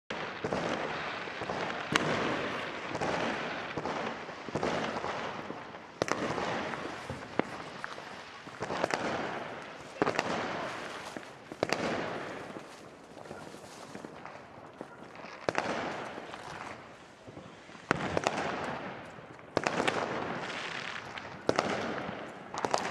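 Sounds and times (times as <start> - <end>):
distant fireworks crackling: 0.1 - 22.9
fireworks bangs with echo: 0.1 - 22.9.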